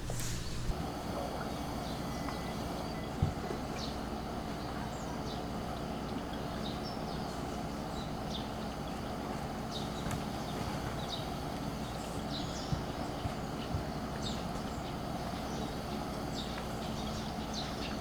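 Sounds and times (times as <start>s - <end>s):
small birds chirping: 1.6s - 18.0s.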